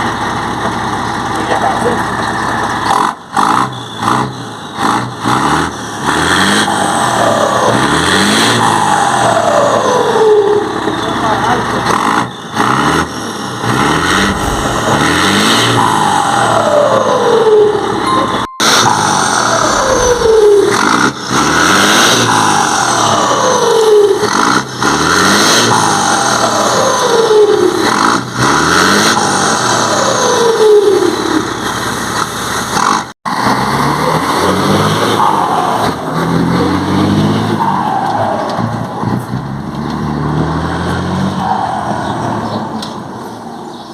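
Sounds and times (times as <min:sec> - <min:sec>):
truck diesel engine revving: 0:00.0 - 0:42.8.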